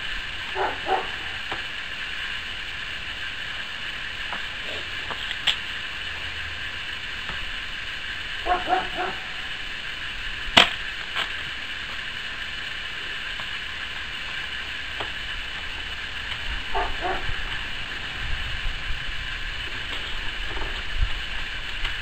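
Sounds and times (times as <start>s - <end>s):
high drone: 0.0s - 21.8s.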